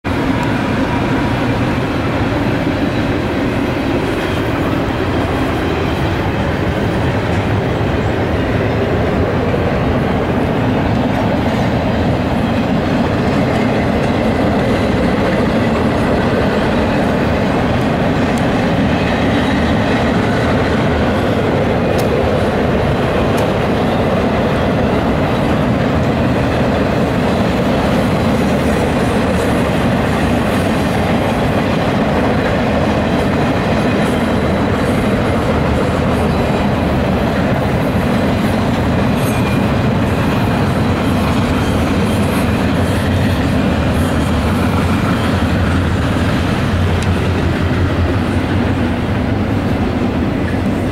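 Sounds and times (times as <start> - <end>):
freight train wheels on rails: 0.0 - 50.9.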